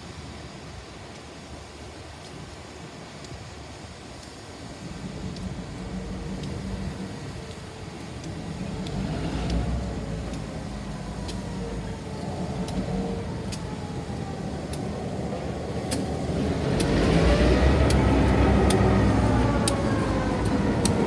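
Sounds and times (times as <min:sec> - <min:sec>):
diesel locomotive engine rumble: 0:02.4 - 0:21.0.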